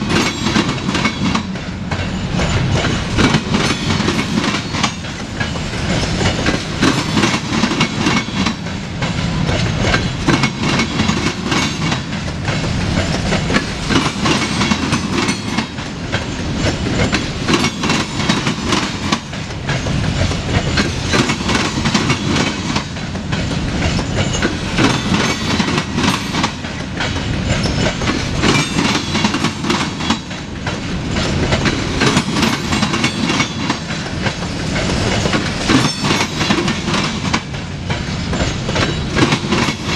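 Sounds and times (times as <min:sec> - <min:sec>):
train low rumble: 0:00.0 - 0:39.9
train wheels clattering over rail joints: 0:00.0 - 0:39.9.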